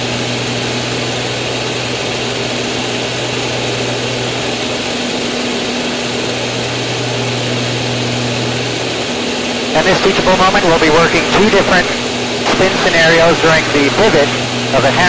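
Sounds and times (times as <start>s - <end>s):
biplane engine droning: 0.0s - 15.0s.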